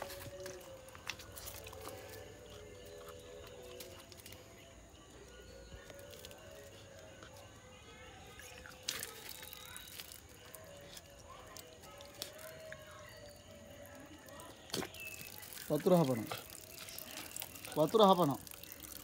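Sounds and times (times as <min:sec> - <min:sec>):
water dripping: 0:00.0 - 0:04.6, 0:05.7 - 0:07.4, 0:08.3 - 0:19.0.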